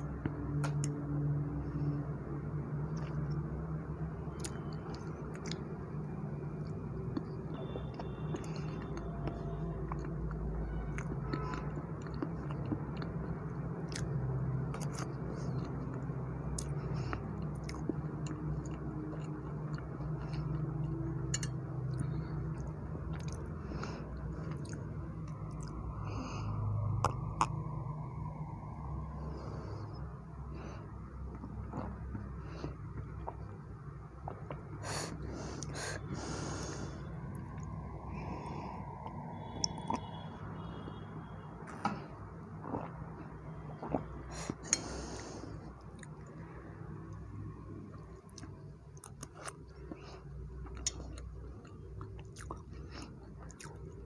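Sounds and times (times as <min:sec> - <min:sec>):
close-miked chewing of cake: 0:00.0 - 0:03.6, 0:04.3 - 0:26.1, 0:26.8 - 0:40.8, 0:41.6 - 0:54.0
steady low hum: 0:00.0 - 0:54.0.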